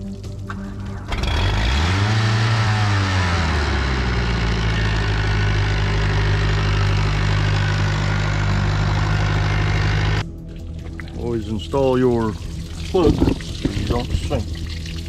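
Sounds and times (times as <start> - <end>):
boat engine idling: 0.4 - 14.7.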